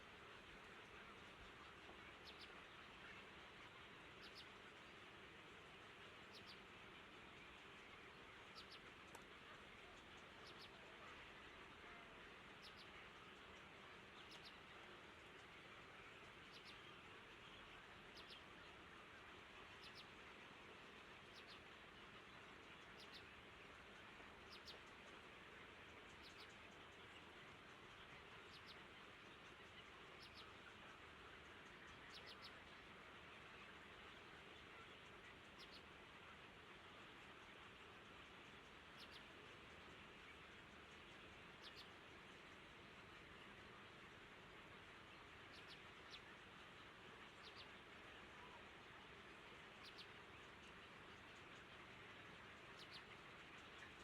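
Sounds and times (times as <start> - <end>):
steady low hiss: 0.0 - 54.0.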